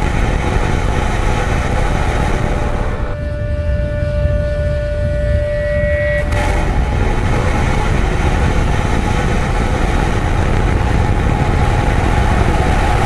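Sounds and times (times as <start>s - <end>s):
rocket engines roaring: 0.0s - 13.0s.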